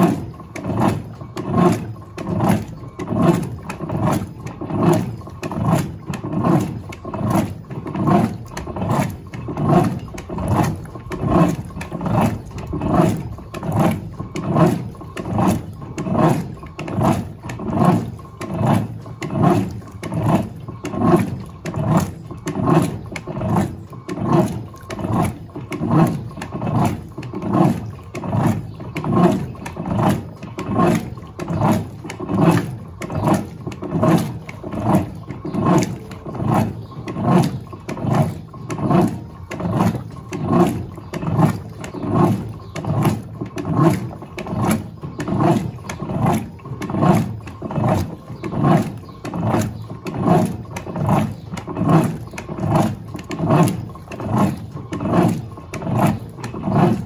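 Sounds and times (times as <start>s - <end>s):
washing machine agitator sloshing: 0.0s - 57.0s.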